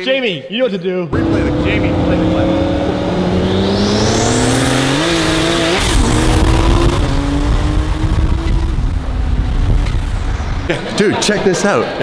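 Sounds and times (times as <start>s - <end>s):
car engines accelerating hard: 1.1s - 10.9s
wind and road noise: 1.2s - 12.0s.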